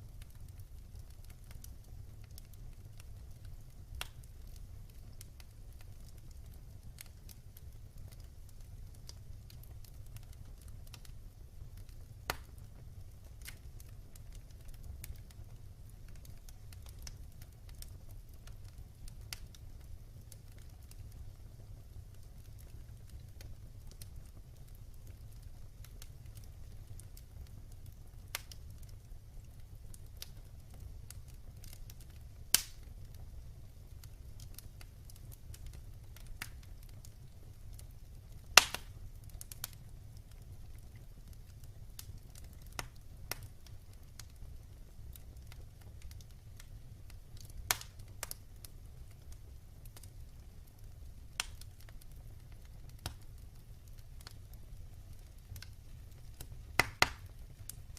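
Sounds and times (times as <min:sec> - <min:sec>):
low rumble of flames: 0:00.0 - 0:57.9
wood fire crackling and popping: 0:00.0 - 0:57.9.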